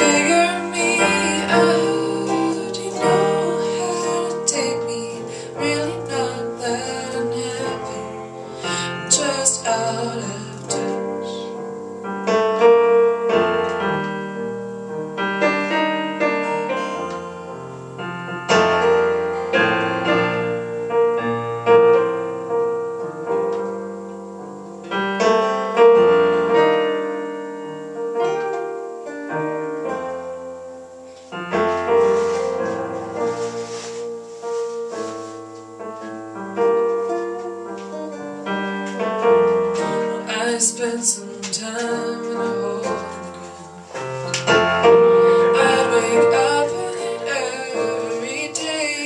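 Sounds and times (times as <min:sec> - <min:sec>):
piano chords: 0:00.0 - 0:49.0.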